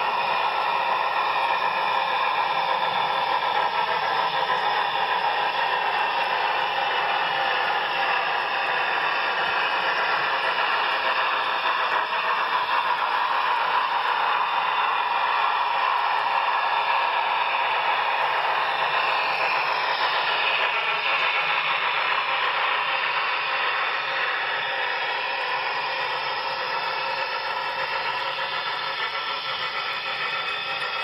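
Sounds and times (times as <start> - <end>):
model train wheels rushing on rails: 0.0 - 31.0.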